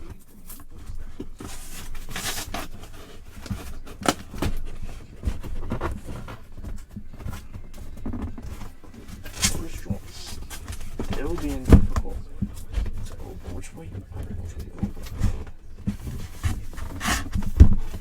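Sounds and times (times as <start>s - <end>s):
plastic case clicking and creaking: 0.0s - 18.0s.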